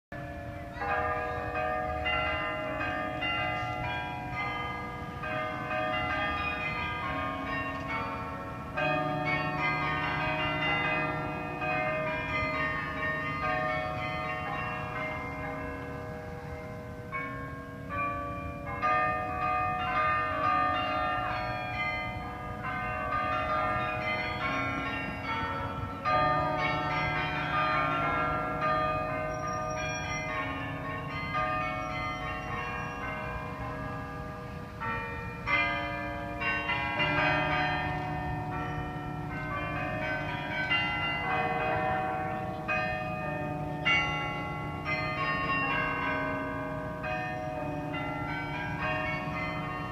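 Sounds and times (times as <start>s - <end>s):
carillon bells playing a tune: 0.2s - 49.9s.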